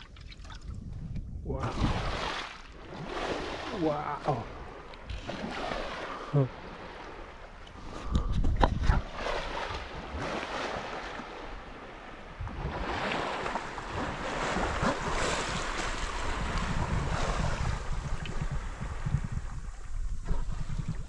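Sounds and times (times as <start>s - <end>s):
water lapping around kayak: 0.0s - 21.0s
wind buffeting microphone: 0.3s - 21.0s.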